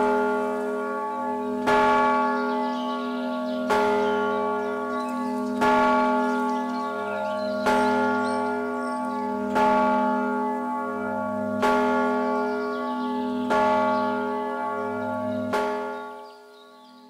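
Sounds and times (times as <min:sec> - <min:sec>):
church bell tolling: 0:00.0 - 0:17.0.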